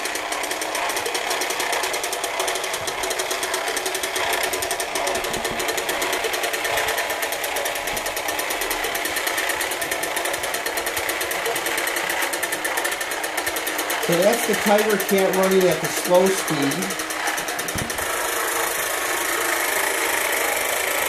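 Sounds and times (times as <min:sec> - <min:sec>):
toy motor and gears whirring: 0:00.0 - 0:21.0.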